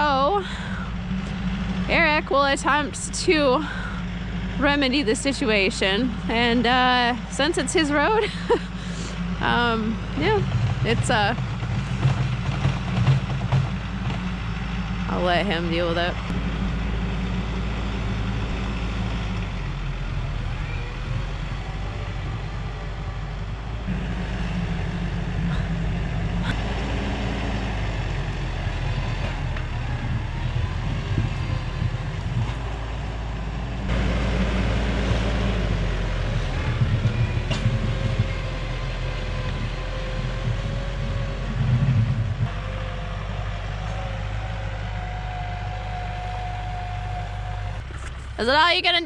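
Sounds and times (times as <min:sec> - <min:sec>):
vehicle engine driving through mud: 0:00.0 - 0:49.0.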